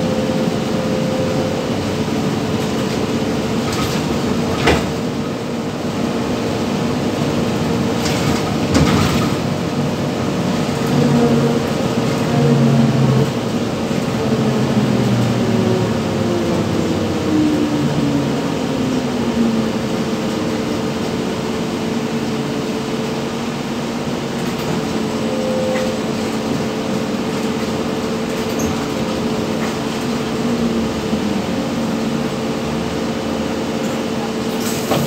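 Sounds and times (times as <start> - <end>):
trolleybus electric whine: 0.0 - 35.0.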